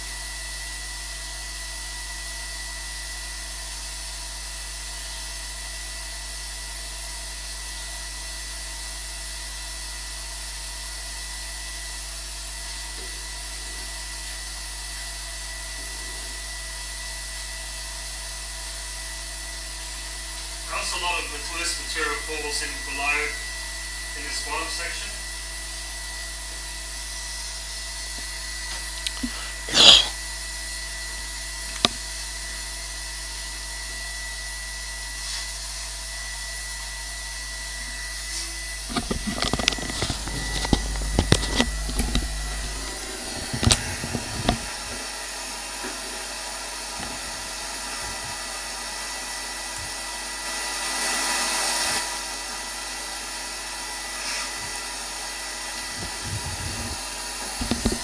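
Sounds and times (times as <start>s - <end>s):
vacuum running: 0.0s - 58.0s.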